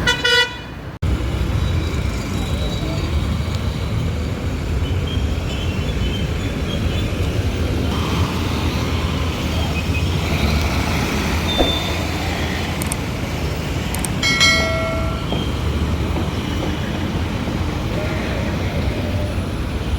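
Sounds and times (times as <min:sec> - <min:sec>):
road noise rumble: 0:00.0 - 0:19.9.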